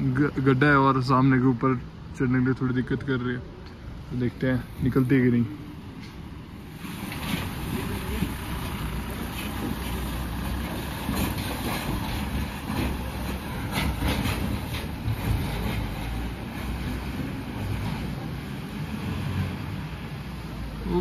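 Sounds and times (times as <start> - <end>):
diesel engine running under load: 3.4 - 21.0.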